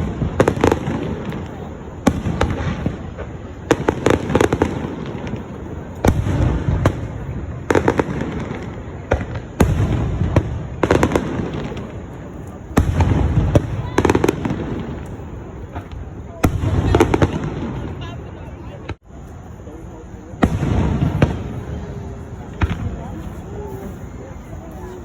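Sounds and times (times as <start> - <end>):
fireworks sharp bangs: 0.0 - 25.0.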